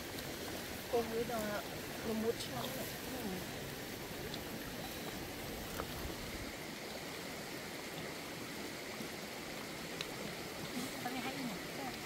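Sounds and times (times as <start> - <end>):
faint fire crackle: 0.0 - 12.0.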